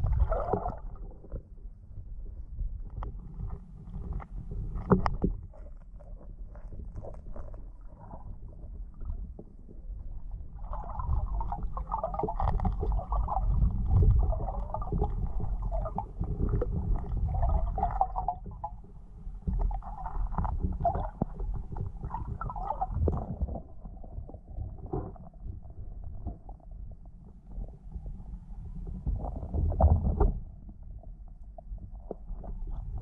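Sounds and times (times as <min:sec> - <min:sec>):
choppy water gurgling: 0:00.0 - 0:33.0
underwater rumble of moving water: 0:00.0 - 0:33.0.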